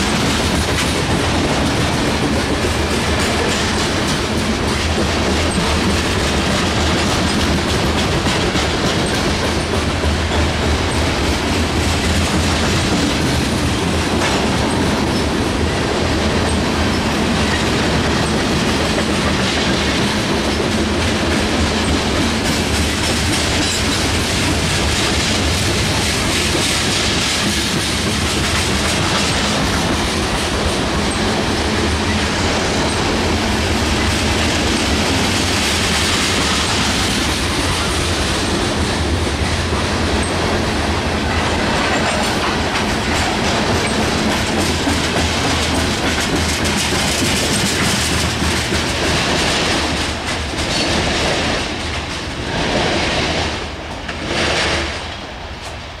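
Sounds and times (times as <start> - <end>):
wheels clacking on rail joints: 0.0 - 55.8
freight train rumbling past: 0.0 - 56.0.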